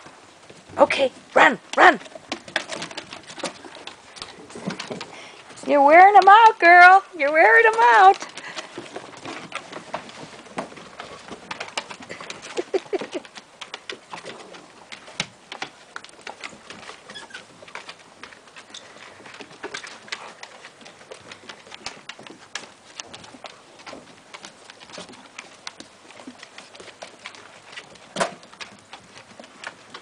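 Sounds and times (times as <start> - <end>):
dog claws clicking on wooden deck: 1.7 - 30.0.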